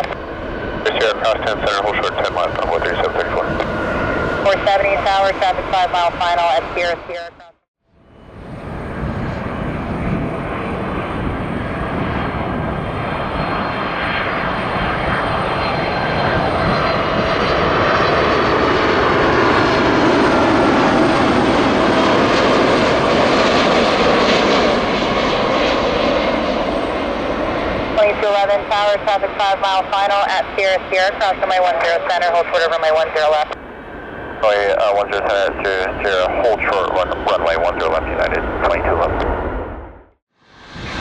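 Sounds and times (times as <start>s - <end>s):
jet airliner passing close: 0.0s - 7.4s, 8.0s - 41.0s
faint high engine whine: 0.0s - 39.8s.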